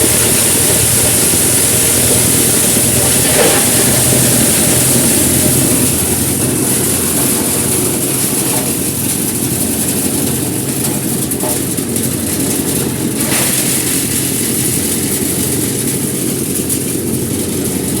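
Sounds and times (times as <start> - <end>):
grinding machine engine drone: 0.0 - 18.0.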